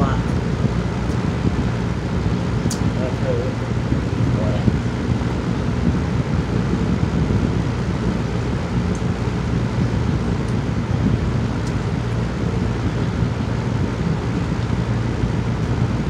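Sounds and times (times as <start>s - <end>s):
low rumble with faint hum: 0.0s - 16.0s.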